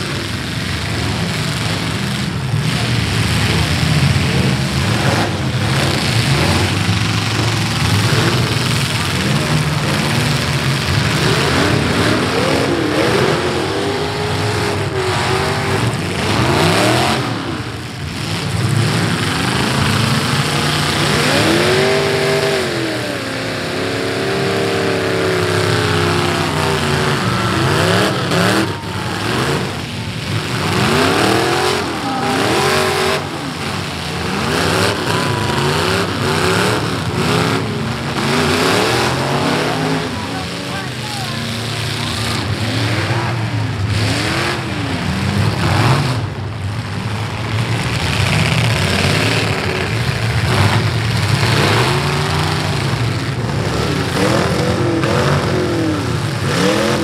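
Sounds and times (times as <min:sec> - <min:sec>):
car engines revving hard: 0:00.0 - 0:57.0.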